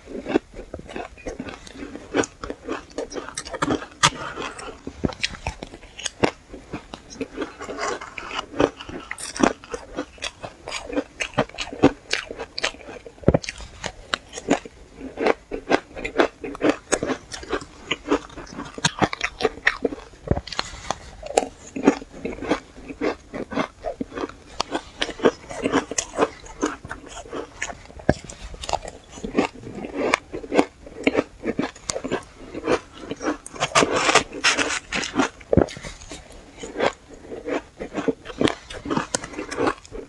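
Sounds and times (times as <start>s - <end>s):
shaved ice being chewed: 0.0s - 40.0s.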